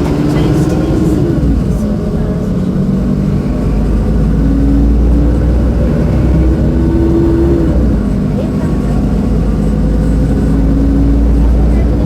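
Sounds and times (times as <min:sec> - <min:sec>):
bus diesel engine rumble: 0:00.0 - 0:12.0
gearbox whine rising in pitch: 0:00.0 - 0:12.0.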